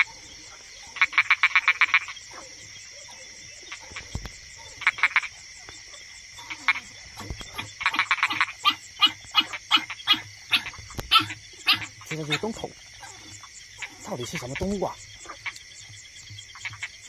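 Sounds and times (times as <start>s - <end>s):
frogs croaking: 0.0s - 17.0s
insects trilling: 0.0s - 17.0s.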